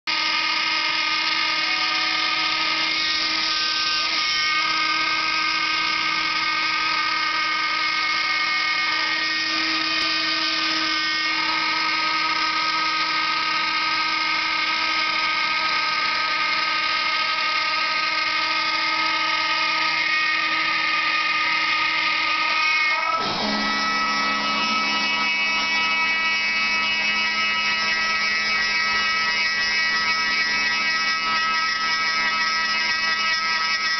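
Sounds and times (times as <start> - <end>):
cnc router spindle whining: 0.1 - 33.9.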